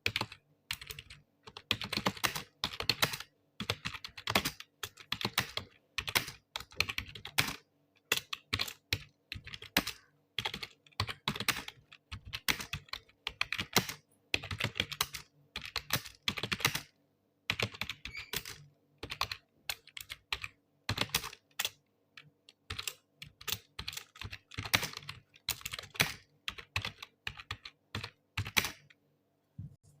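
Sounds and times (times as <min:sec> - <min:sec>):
computer keyboard typing: 0:00.0 - 0:29.0.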